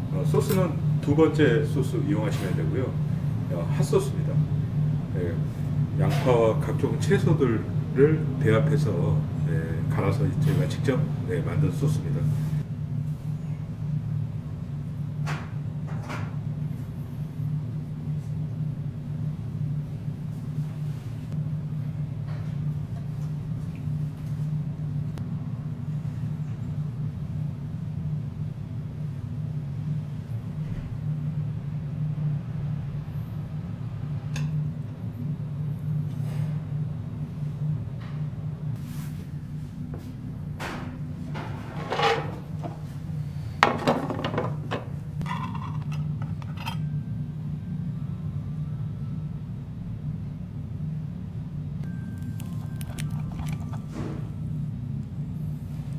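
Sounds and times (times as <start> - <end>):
ventilation hum: 0.0 - 55.9.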